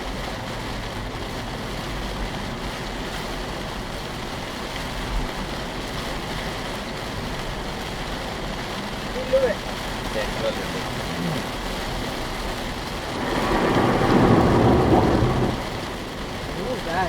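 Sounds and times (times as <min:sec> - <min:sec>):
heavy rain: 0:00.0 - 0:17.0
tyres on a wet road: 0:00.0 - 0:17.0.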